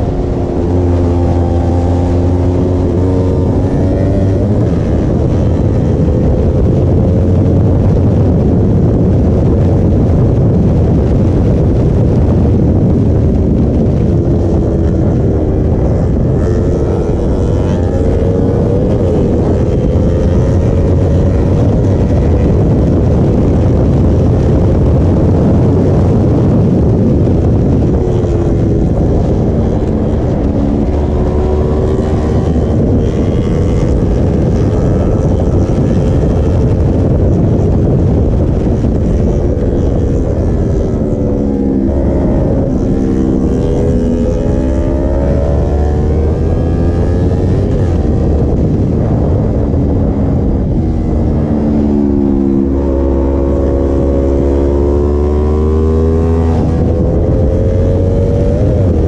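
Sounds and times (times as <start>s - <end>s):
motorcycle engine revving: 0.0s - 59.0s
wind rushing on microphone: 0.0s - 59.0s.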